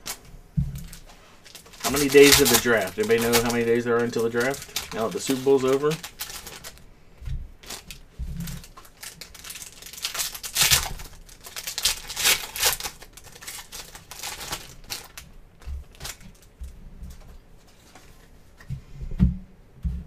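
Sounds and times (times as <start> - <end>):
cards rustling: 0.8 - 6.8, 7.6 - 18.7
foil wrappers crinkling and tearing: 0.8 - 6.9, 7.6 - 18.0.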